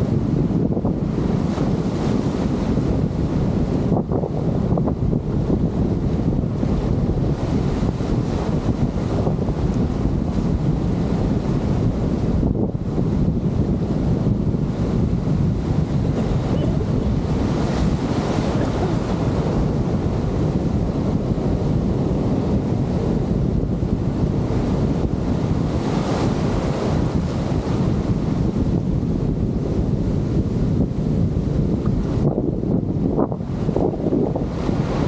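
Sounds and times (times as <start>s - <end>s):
surf breaking and foaming: 0.0s - 35.0s
wind buffeting microphone: 0.0s - 35.0s.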